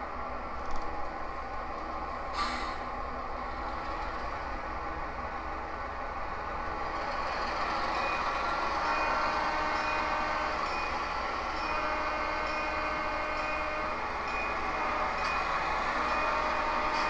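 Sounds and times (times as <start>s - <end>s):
model train running: 3.1s - 17.0s.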